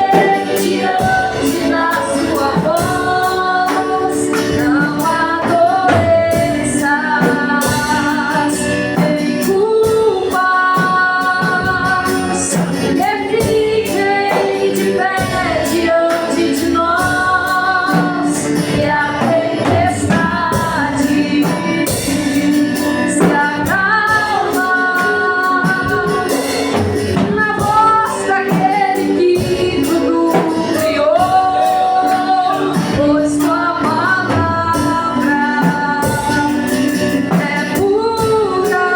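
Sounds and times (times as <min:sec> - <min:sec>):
instrumental backing with percussion: 0:00.0 - 0:38.9
woman singing: 0:00.0 - 0:38.9.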